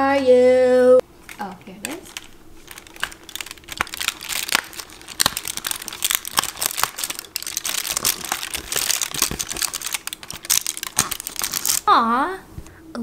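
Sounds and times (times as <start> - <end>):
foil crinkling: 1.2 - 11.9.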